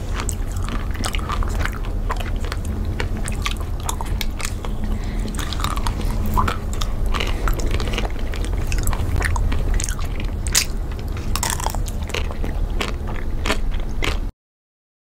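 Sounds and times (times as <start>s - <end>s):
crunching chocolate ice cream: 0.0s - 14.3s
low rumble: 0.0s - 14.3s.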